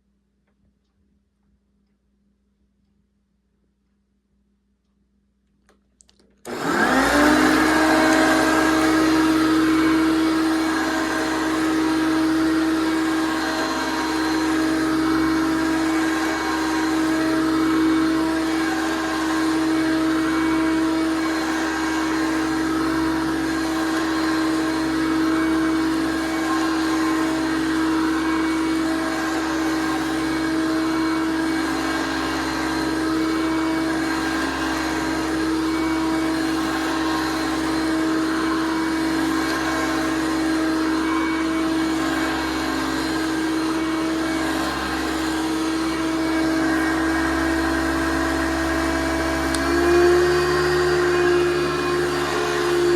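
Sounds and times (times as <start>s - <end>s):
vacuum cleaner motor whine: 6.4s - 52.9s.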